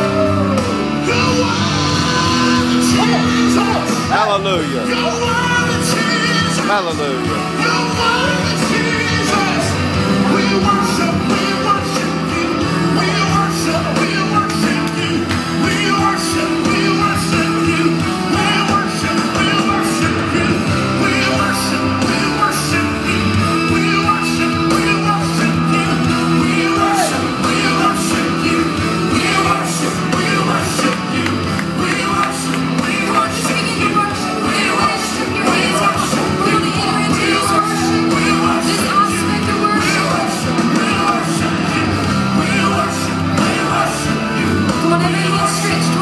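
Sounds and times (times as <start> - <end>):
steady drum beat: 0.0 - 46.0
worship music with singing: 0.0 - 46.0.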